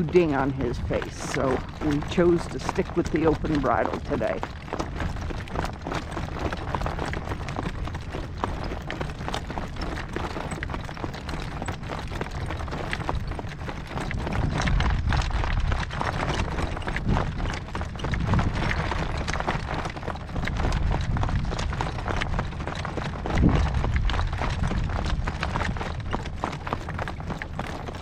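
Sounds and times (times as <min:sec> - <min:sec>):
horse hooves on dirt road: 0:00.0 - 0:28.0
wind on microphone: 0:00.0 - 0:28.0.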